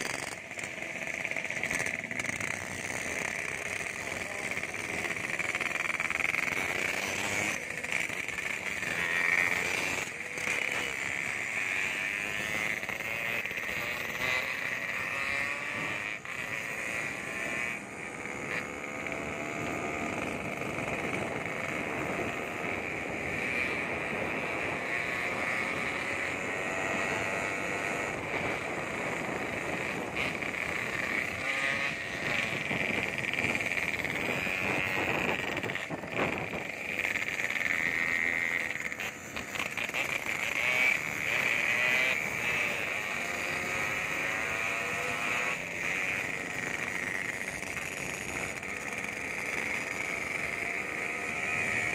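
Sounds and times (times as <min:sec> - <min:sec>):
motorcycle engine revving: 0:00.0 - 0:51.9
wind and road noise: 0:00.0 - 0:51.9.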